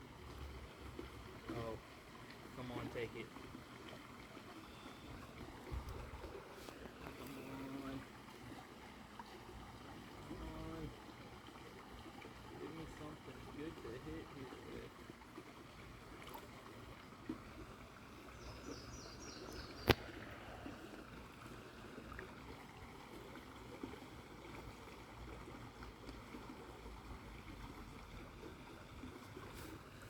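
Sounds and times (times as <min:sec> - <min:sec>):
faint outdoor background noise: 0:00.0 - 0:30.0.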